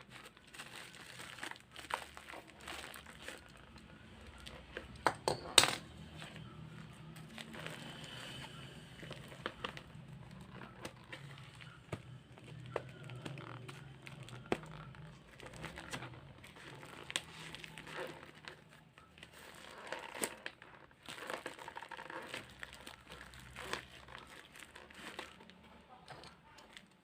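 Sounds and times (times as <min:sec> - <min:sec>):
plastic packaging crinkling: 0:00.0 - 0:27.0.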